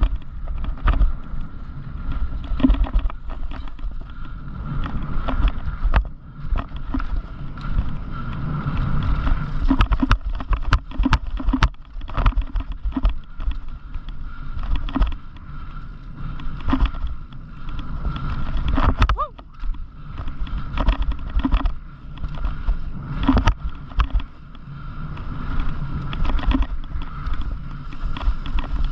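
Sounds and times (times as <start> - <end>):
bicycle tyres rumbling on trail: 0.0 - 28.9
bike rattling over bumps: 0.0 - 28.9
wind buffeting microphone: 0.0 - 28.9.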